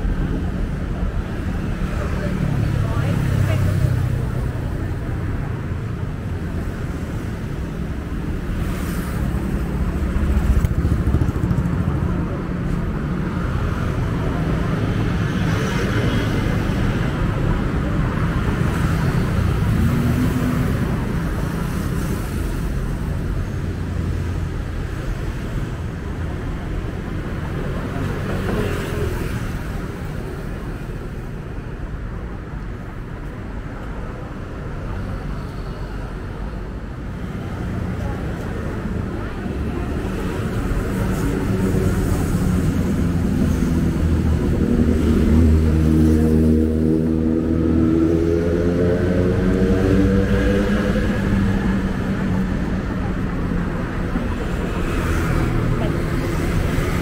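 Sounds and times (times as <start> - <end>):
passing cars and motorcycles: 0.0 - 57.0.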